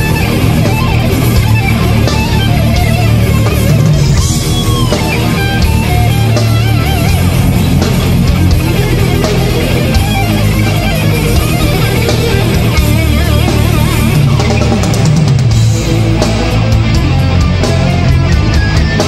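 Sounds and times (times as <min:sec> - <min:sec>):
electric guitar lead line: 0:00.0 - 0:19.0
metal band playing: 0:00.0 - 0:19.0.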